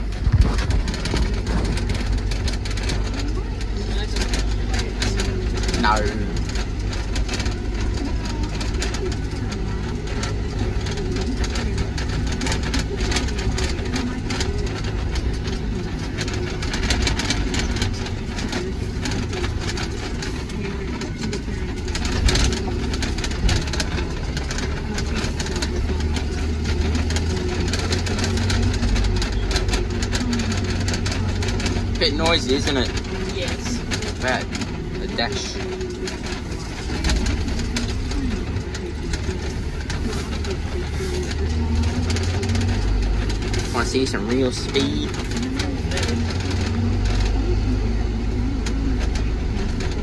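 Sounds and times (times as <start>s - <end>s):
rattles and knocks: 0.0s - 50.0s
tractor engine running: 0.0s - 50.0s.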